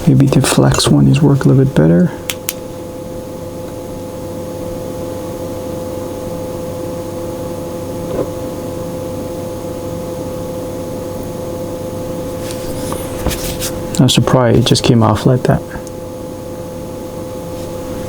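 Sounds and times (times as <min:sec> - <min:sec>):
mechanical hum with held tone: 0:00.0 - 0:18.0.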